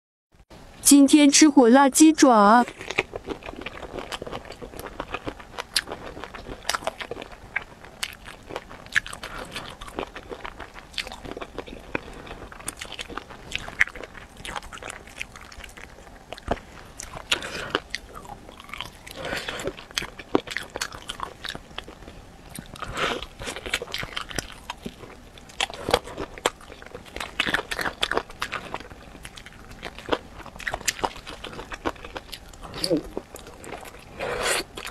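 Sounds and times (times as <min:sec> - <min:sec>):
close-up chewing and crunching: 0:02.6 - 0:34.9.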